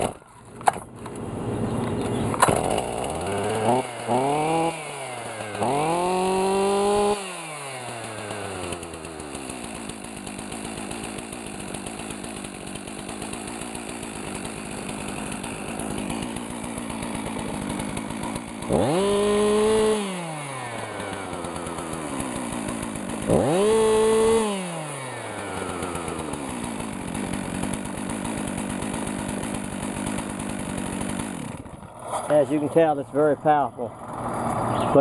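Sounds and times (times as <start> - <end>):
chainsaw engine revving and idling: 0.0 - 35.0.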